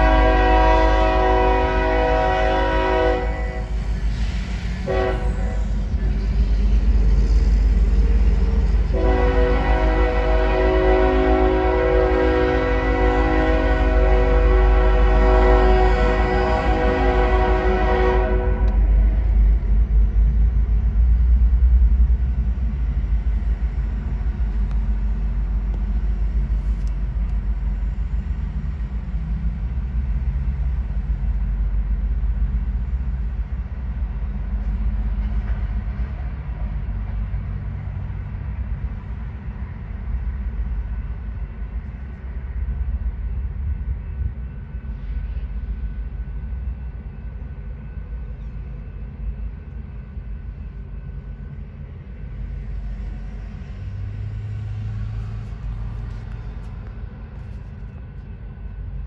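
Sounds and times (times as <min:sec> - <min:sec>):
train cars rumbling on rails: 0:00.0 - 0:59.0.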